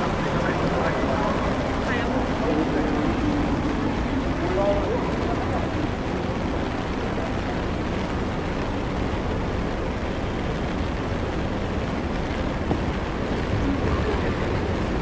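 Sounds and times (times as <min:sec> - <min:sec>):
passing traffic: 0:00.0 - 0:15.0
rain: 0:00.0 - 0:15.0.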